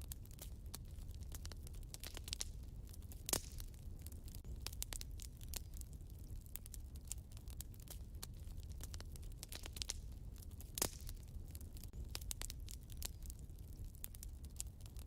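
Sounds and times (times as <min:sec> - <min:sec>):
fire popping: 0:00.0 - 0:15.0
low rumble of flame: 0:00.0 - 0:15.0
wood fire crackling: 0:00.0 - 0:15.0.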